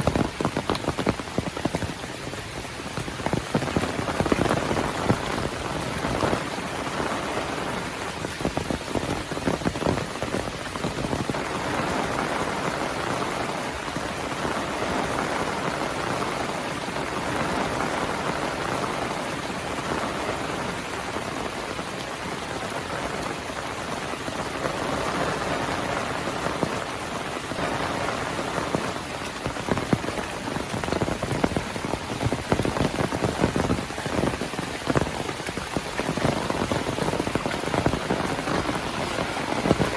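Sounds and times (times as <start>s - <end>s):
heavy rain hissing: 0.0s - 39.9s
raindrops pattering close: 0.0s - 39.9s.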